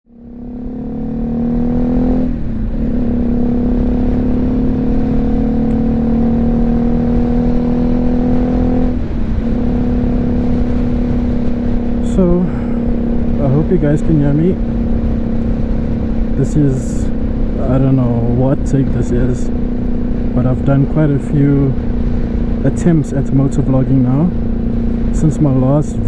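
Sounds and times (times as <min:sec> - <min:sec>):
motorcycle engine running: 0:00.1 - 0:26.0
wind buffeting microphone: 0:00.6 - 0:26.0.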